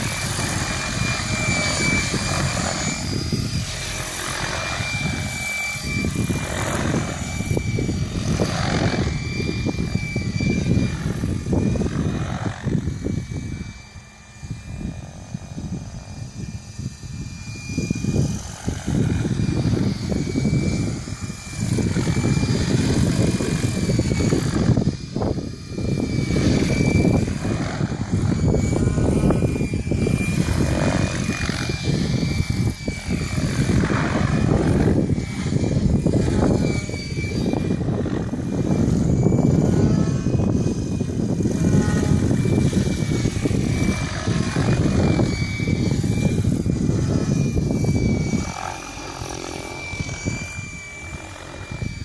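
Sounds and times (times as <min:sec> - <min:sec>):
electric motor high whine: 0:00.0 - 0:52.0
helicopter rotor blades chopping: 0:00.0 - 0:52.0.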